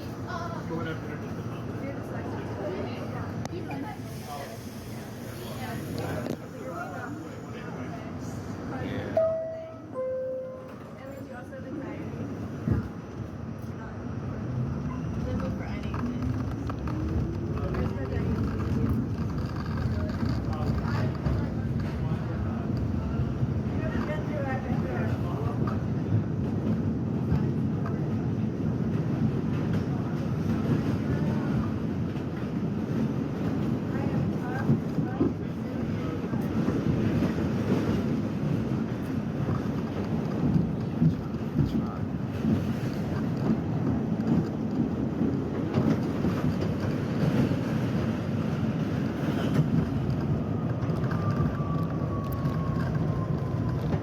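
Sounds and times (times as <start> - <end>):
subway train rumbling on rails: 0.0 - 54.0.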